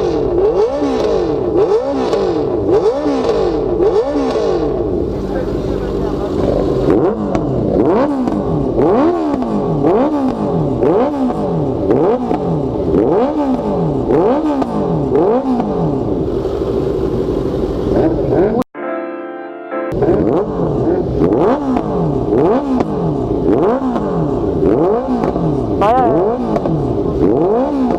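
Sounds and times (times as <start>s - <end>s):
motorcycle engine revving: 0.0s - 18.7s, 19.9s - 27.9s.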